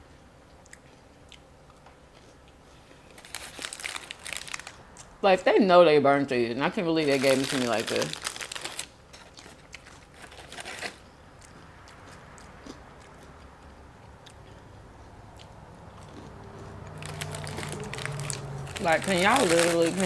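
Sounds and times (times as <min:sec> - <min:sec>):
crunching and chewing fried food: 0:00.5 - 0:05.1, 0:07.0 - 0:20.0.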